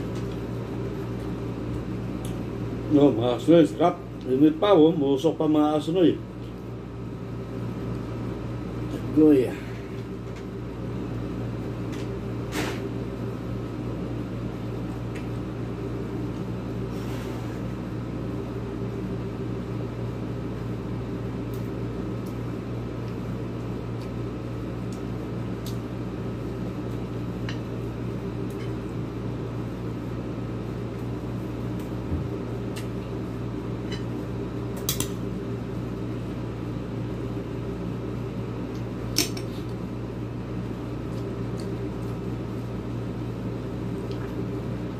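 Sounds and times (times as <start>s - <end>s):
steady mechanical hum: 0.0s - 44.9s.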